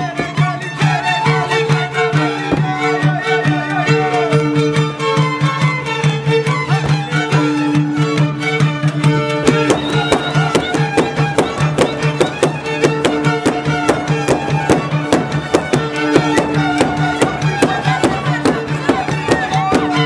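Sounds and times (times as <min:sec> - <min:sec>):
fiddle playing fast dance tune: 0:00.0 - 0:20.0.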